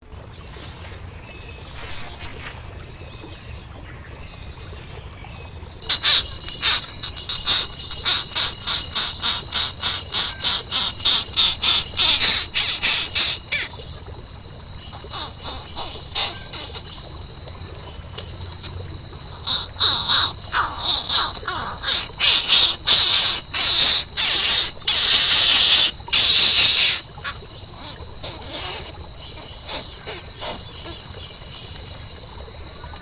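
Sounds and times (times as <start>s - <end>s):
high insect-like hum: 0.0s - 33.0s.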